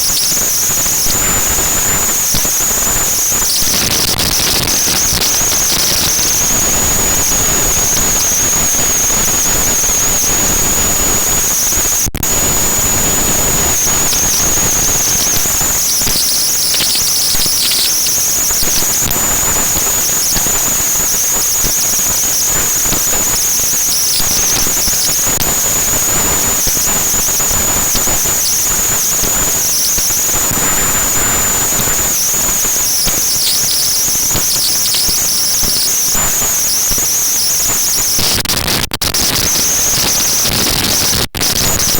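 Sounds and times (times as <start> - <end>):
high-pitched whine: 0.0 - 38.2.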